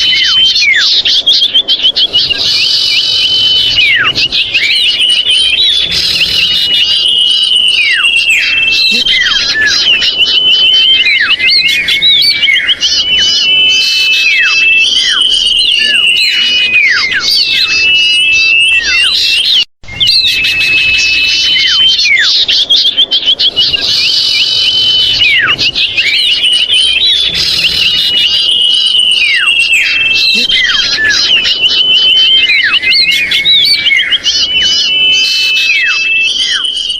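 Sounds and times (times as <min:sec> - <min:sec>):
bird calls with trills and whistles: 0:00.0 - 0:36.9.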